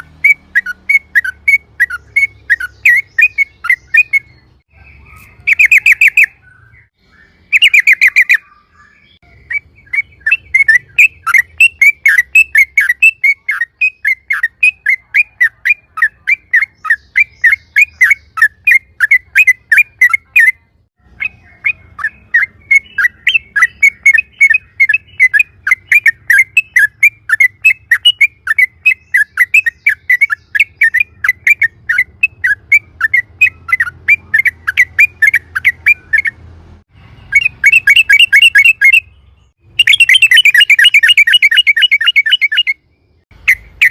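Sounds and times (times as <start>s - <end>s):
bird singing rapid chirps: 0.0s - 43.9s.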